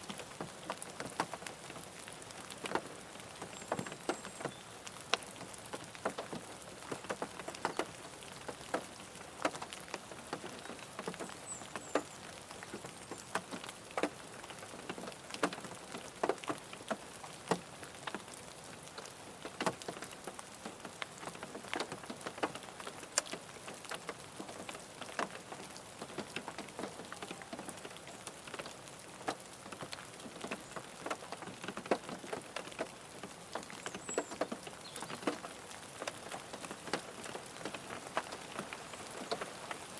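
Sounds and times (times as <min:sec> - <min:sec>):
rain hissing: 0:00.0 - 0:39.9
raindrops ticking on car body: 0:00.0 - 0:39.9.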